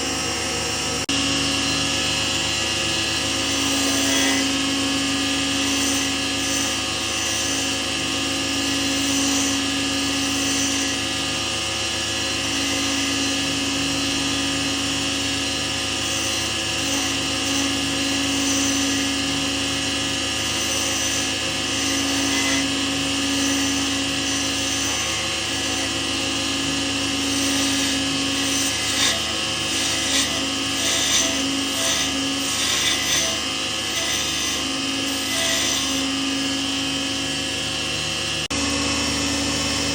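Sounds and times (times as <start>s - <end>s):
lathe motor humming: 0.0s - 39.9s
tool scraping spinning work: 0.0s - 39.9s.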